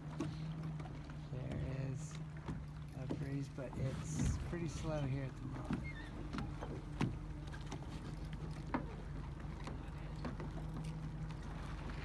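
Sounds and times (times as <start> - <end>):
motorboat engine idling: 0.0 - 12.0.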